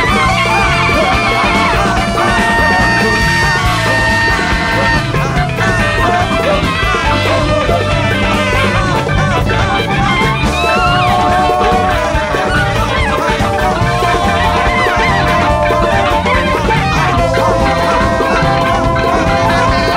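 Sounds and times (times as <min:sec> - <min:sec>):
drums and bass groove: 0:00.0 - 0:19.9
jazz band playing: 0:00.0 - 0:19.9.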